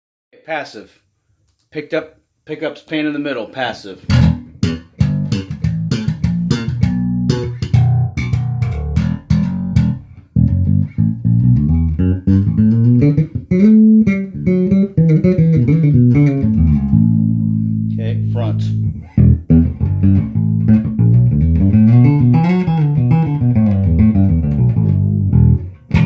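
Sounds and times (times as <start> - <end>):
electric bass notes: 4.1 - 26.0.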